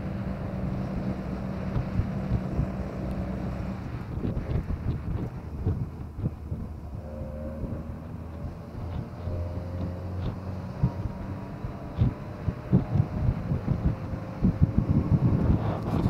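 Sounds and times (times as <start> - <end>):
road rumble: 0.0 - 16.0
vehicle engine running: 0.0 - 16.0.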